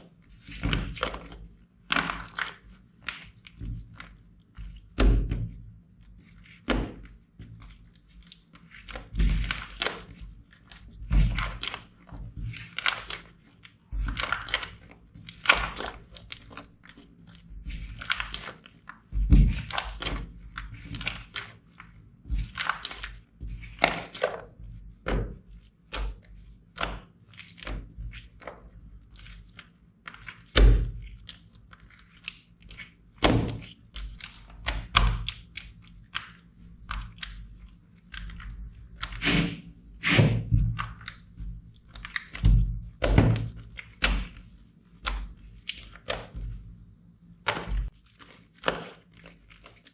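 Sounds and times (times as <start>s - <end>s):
slime squelching and popping: 0.0s - 49.9s.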